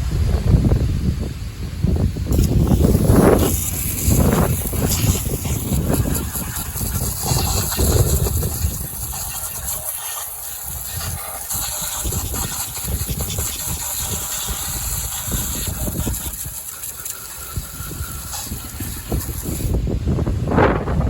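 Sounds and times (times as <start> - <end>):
steady hiss: 0.0 - 20.4
wind buffeting microphone: 0.0 - 21.0.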